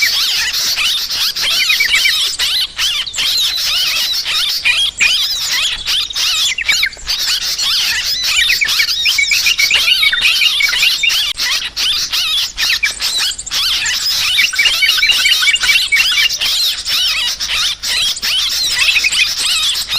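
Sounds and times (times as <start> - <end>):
birds chattering: 0.0 - 19.9.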